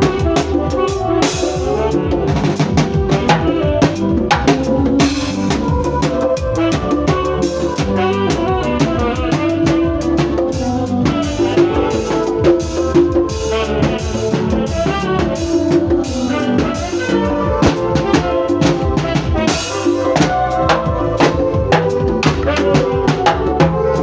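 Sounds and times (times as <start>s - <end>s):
electronic keyboard music: 0.0s - 24.0s.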